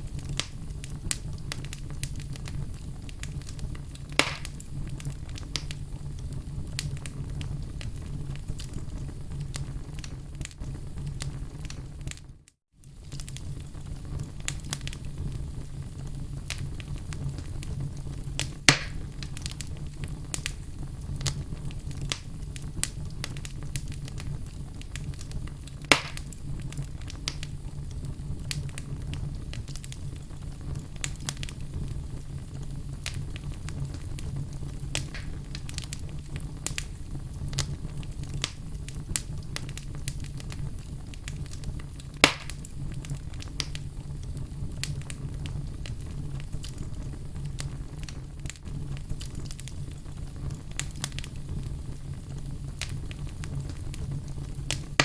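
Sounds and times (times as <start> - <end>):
fire sharp pops: 0.0 - 55.0
wood fire crackling: 0.0 - 55.0.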